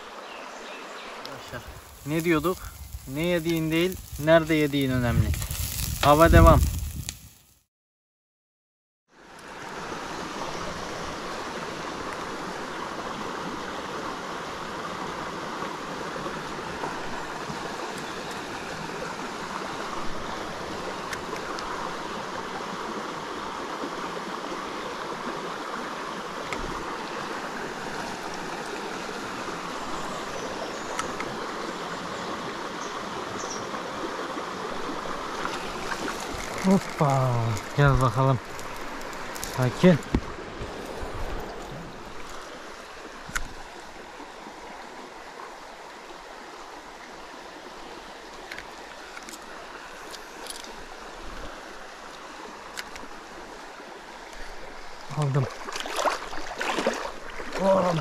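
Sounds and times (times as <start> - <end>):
stream water running: 0.0 - 7.6, 9.1 - 58.0.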